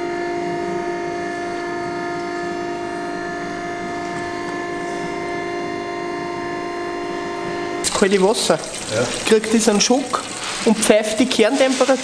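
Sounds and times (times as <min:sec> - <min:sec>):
high-pitched machine whine: 0:00.0 - 0:11.9.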